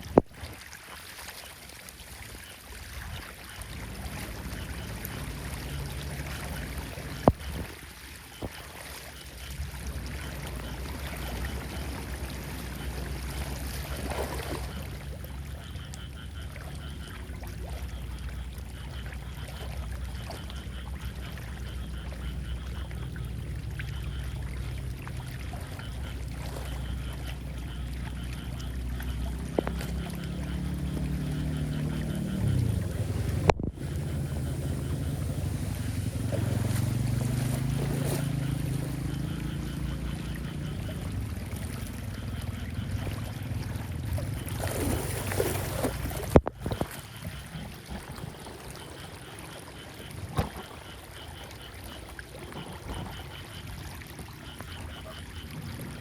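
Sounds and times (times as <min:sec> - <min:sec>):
floodwater rushing down a drain: 0:00.0 - 0:56.0.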